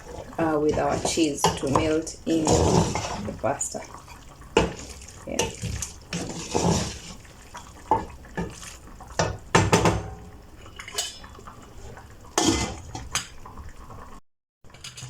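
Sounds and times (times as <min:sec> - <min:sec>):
utensil scraping a cooking pan: 0:00.0 - 0:13.4.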